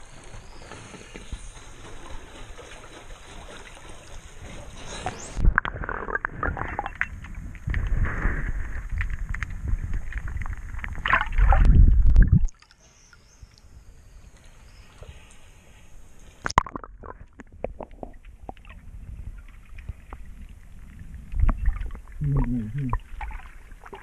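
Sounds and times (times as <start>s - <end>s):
water sloshing against microphone: 0.0s - 24.0s.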